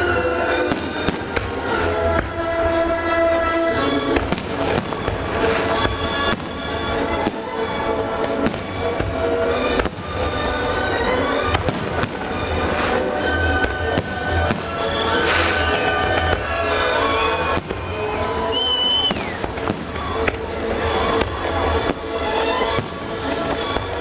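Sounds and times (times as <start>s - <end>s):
music playing: 0.0s - 24.0s.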